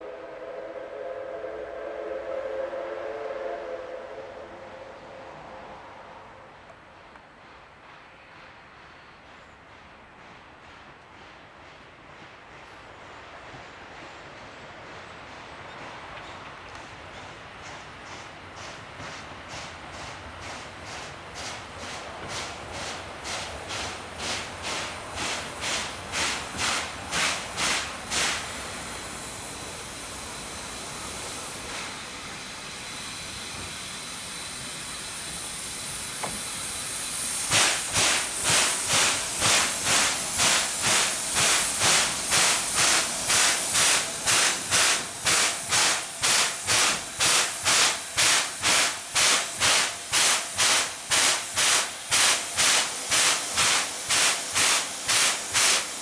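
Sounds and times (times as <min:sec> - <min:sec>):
steam hissing: 0:00.0 - 0:06.6, 0:07.4 - 0:56.0
steam locomotive exhaust chuffing: 0:00.0 - 0:56.0.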